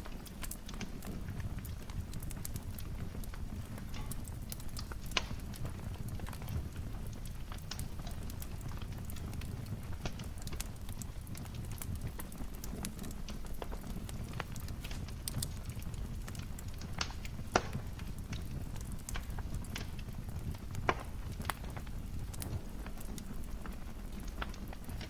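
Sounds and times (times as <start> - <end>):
fire snapping and popping: 0.0 - 25.0
wood fire crackling: 0.0 - 25.0.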